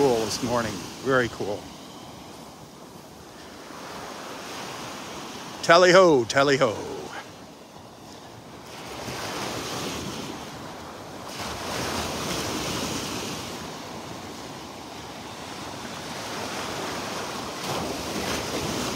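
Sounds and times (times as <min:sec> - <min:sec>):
small waves washing on beach: 0:00.0 - 0:18.9.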